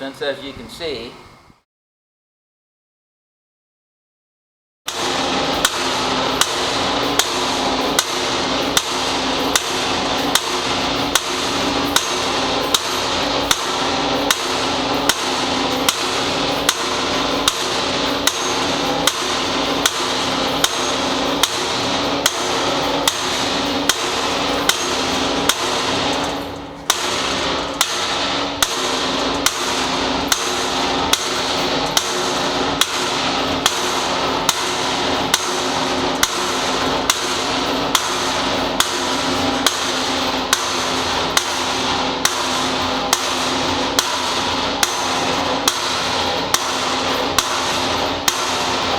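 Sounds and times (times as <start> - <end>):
hammer striking steel punch: 4.9 - 48.9.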